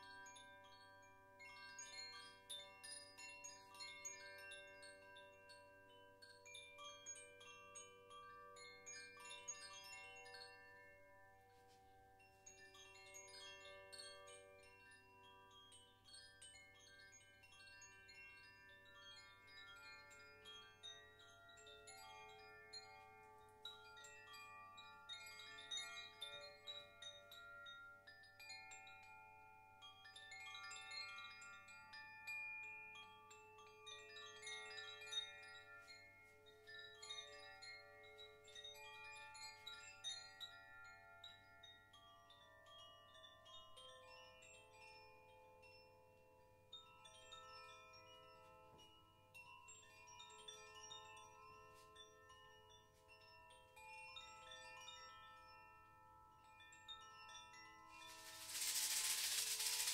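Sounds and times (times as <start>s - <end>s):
faint metal chimes ringing: 0.0s - 59.9s.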